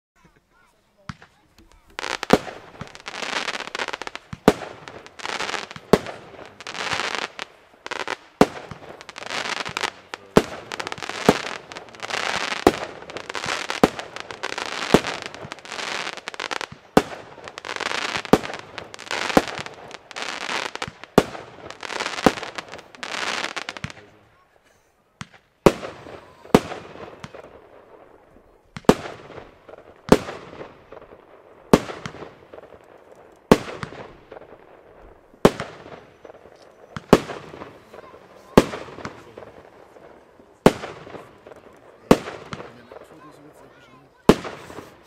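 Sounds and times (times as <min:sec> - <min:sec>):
hissing crackling firework bursts: 0:00.2 - 0:45.0
firework shots banging: 0:01.0 - 0:24.1, 0:25.2 - 0:43.3, 0:44.2 - 0:45.0.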